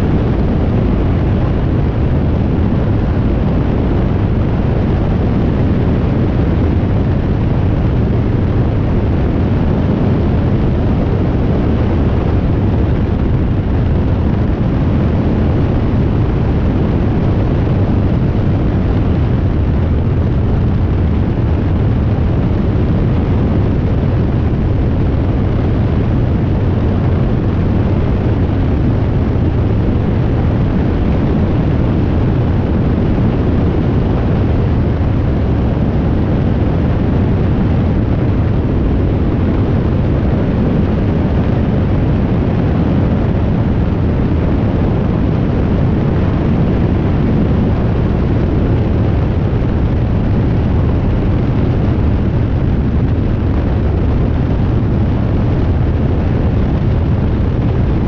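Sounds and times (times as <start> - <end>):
aircraft engine drone: 0.0 - 58.0
heavy wind rush: 0.0 - 58.0.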